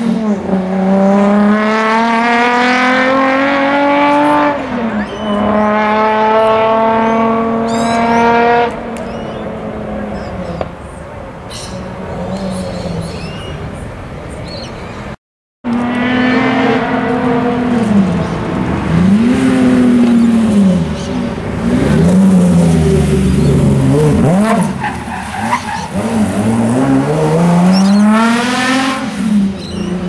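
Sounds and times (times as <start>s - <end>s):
car engine accelerating hard: 0.0s - 10.7s, 15.7s - 30.0s.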